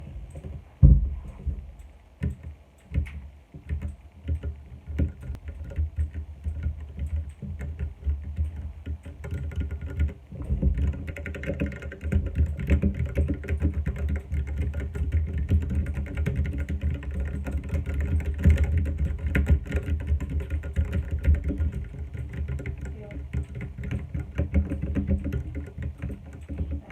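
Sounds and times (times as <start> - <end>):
mechanical keyboard typing: 2.2 - 26.9.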